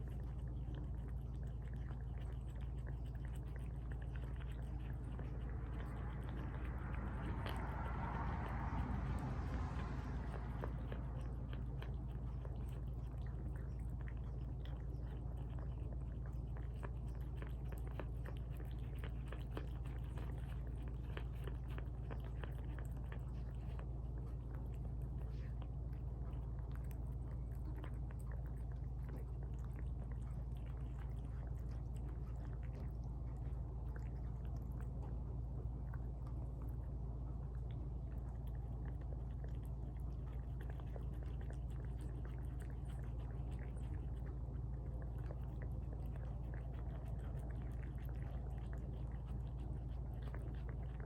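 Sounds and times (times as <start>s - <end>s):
cats chewing food: 0.0s - 51.0s.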